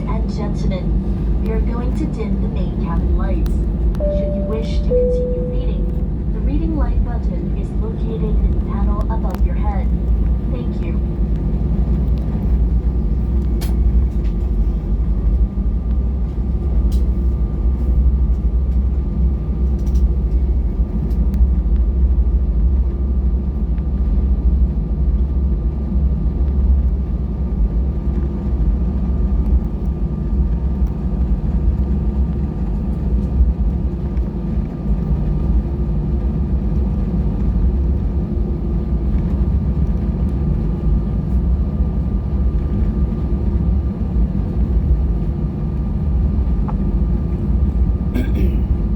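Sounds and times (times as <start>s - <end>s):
airplane cabin rumble: 0.0s - 48.9s.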